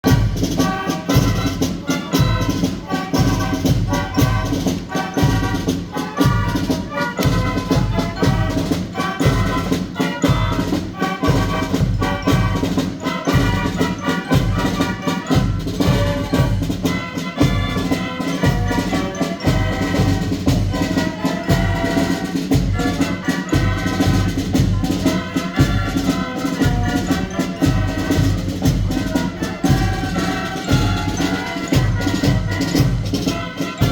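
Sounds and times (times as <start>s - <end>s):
brass band playing march: 0.0s - 33.9s.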